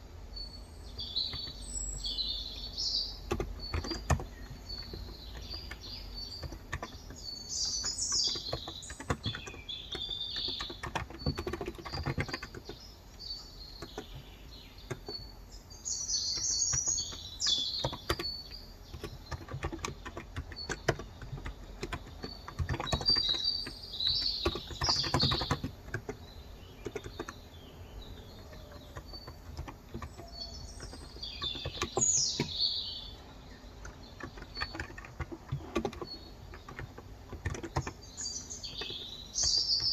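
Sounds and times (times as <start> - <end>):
birds chirping: 0.0 - 39.9
keyboard typing: 0.9 - 15.4, 16.3 - 39.9.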